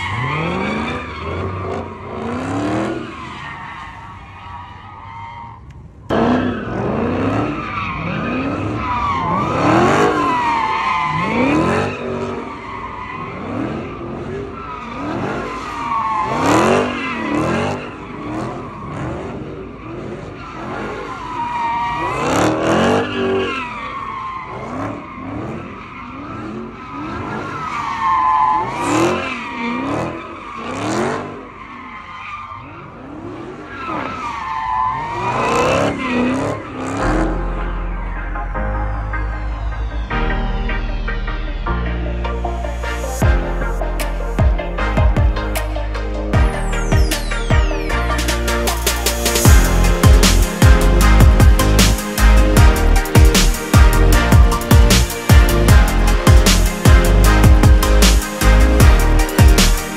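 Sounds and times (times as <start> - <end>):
car engine revving: 0.0 - 4.3, 5.6 - 31.8, 32.6 - 59.9.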